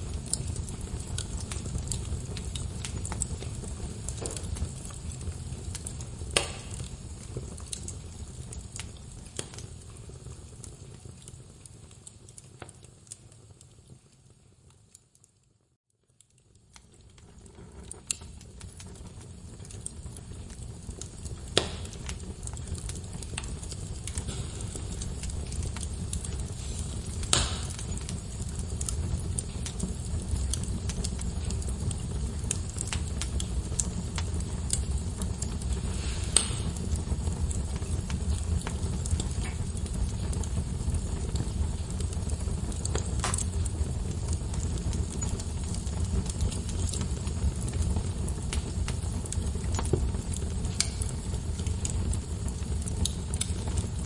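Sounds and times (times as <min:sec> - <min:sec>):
logs popping and crackling: 0:00.0 - 0:15.3, 0:16.0 - 0:54.0
fire rumbling in a fireplace: 0:00.0 - 0:54.0.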